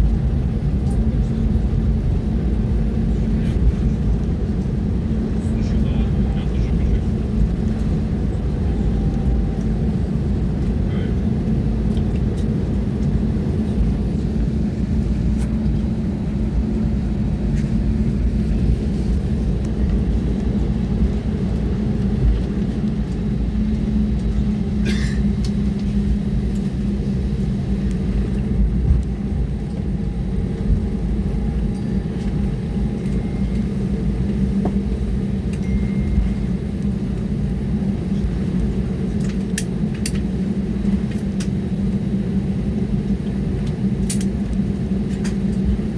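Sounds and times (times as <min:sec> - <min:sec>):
constant hum: 0:00.0 - 0:45.9
jet engine and airflow rumble: 0:00.0 - 0:45.9.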